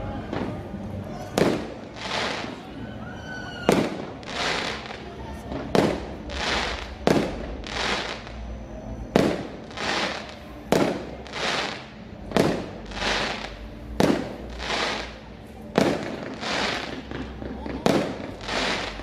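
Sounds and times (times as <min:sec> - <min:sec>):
fireworks bangs: 0:00.3 - 0:02.8, 0:03.5 - 0:08.4, 0:09.1 - 0:19.0.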